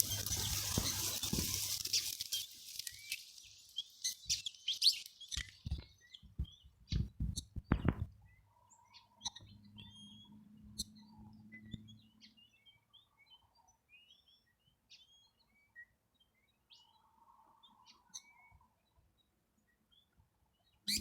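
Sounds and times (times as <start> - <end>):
flock of small birds chirping: 0.0 - 21.0.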